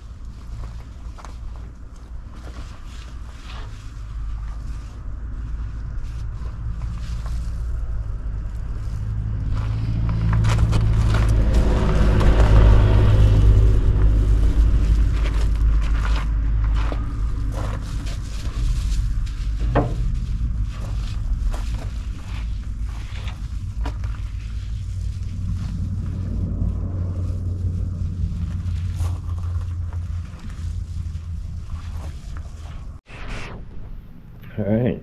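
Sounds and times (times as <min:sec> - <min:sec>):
low wind-like rumble: 0:00.0 - 0:34.4
vehicle passing by: 0:04.0 - 0:33.0.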